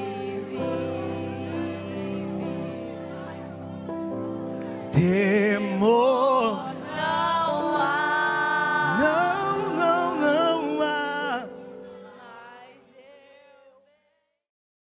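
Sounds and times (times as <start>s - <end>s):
sustained chord: 0.0s - 12.9s
worship band singing: 0.0s - 13.7s.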